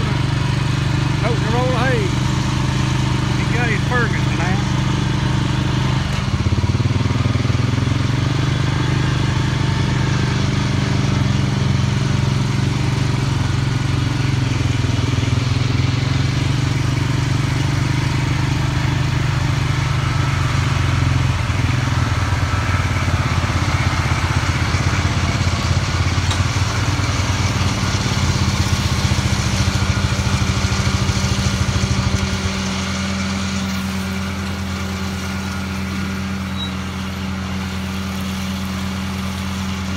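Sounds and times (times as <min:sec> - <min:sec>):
atv engine throbbing drone: 0:00.0 - 0:39.9.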